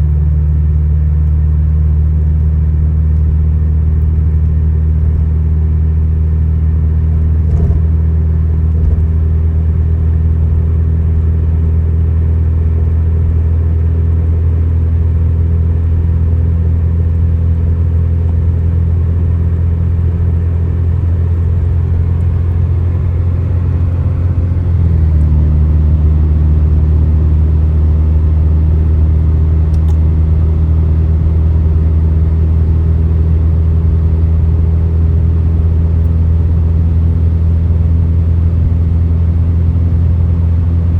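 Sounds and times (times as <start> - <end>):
car driving on highway rumble: 0.0 - 40.9.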